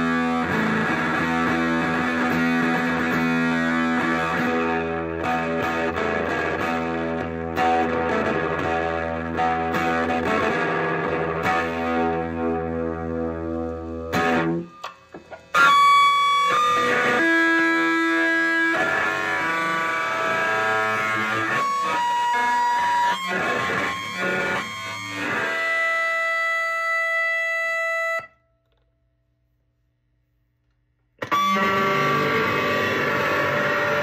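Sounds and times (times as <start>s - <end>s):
electric acoustic guitar chords: 0.0s - 28.3s, 31.2s - 34.0s
guitar held notes ringing: 0.0s - 28.8s, 31.2s - 34.0s.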